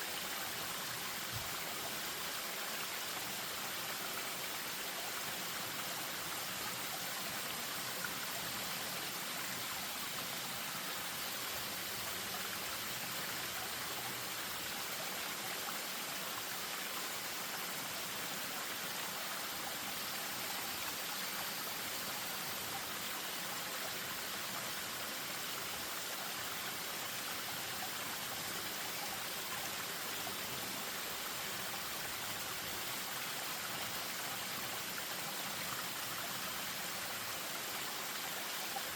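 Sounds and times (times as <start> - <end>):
stream over small waterfall: 0.0 - 38.9.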